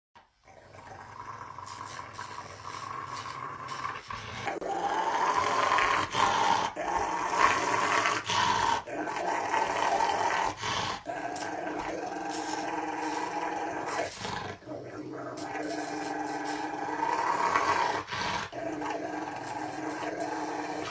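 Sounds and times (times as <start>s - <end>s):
dog growling: 0.3s - 20.9s.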